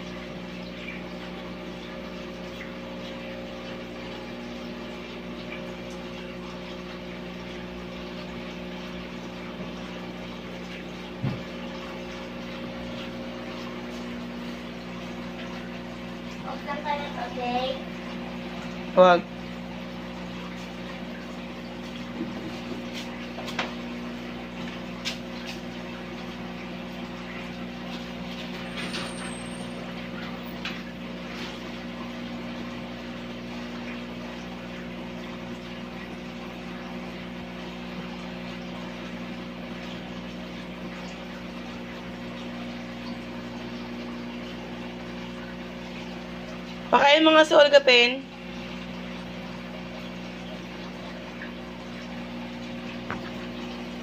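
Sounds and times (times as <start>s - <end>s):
water pump humming: 0.0s - 54.0s.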